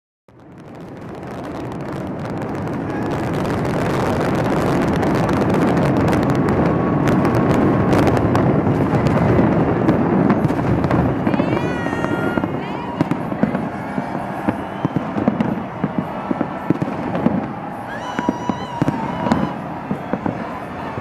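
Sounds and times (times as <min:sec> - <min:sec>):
crackling fireworks pops: 0:00.3 - 0:21.0
fireworks exploding: 0:00.3 - 0:21.0.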